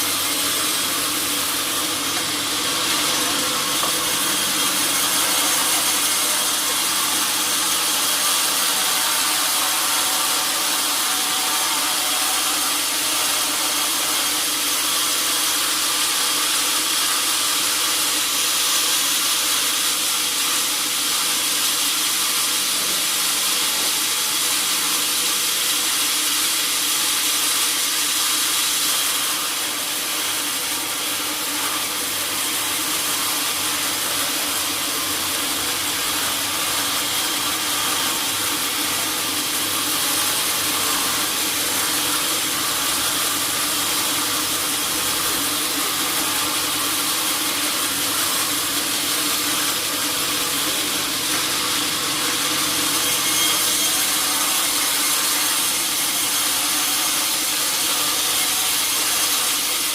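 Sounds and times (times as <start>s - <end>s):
saw blade cutting log: 0.0s - 59.9s.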